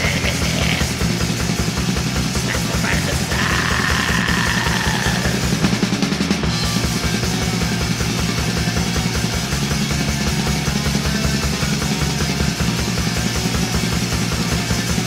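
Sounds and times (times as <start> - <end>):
black metal music: 0.0 - 15.0
rapid drum beat: 0.0 - 15.0.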